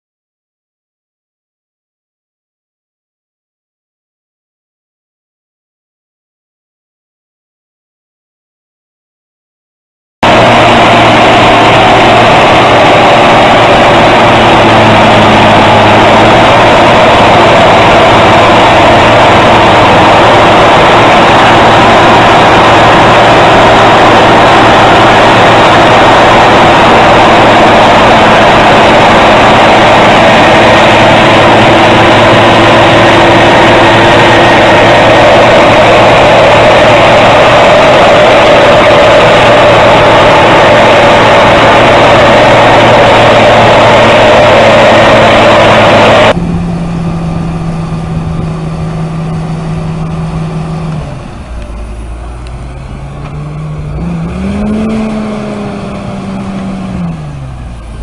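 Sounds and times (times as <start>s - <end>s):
heavy engine running: 10.2s - 58.0s.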